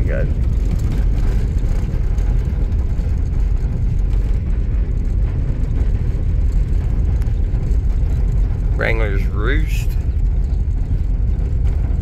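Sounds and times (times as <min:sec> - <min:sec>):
vehicle rumbling on dirt road: 0:00.0 - 0:12.0.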